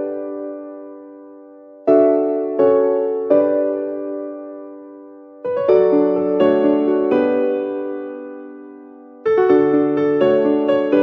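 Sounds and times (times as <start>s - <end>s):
electric piano chords: 0.0s - 11.0s.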